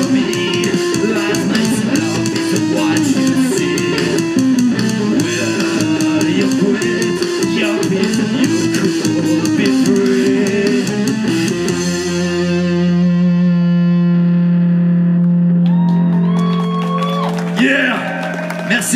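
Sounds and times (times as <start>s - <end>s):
live rock band playing: 0.0s - 15.6s
high sliding guitar tones: 0.0s - 18.9s.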